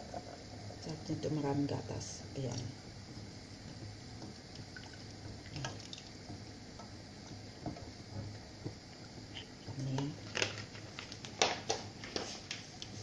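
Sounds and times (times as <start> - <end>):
liquid simmering in a pot: 0.0 - 13.0.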